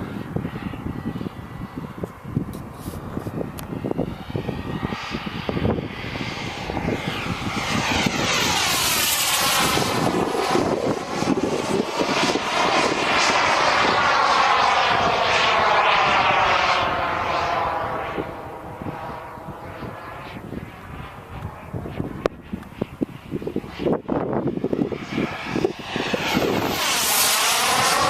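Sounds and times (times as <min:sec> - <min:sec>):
jet turbine engine whine: 0:00.0 - 0:28.0.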